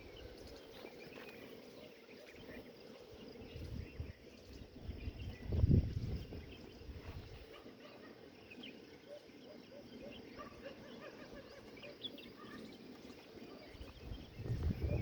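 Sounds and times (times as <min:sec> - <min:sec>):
bird chirps: 0:00.0 - 0:15.0.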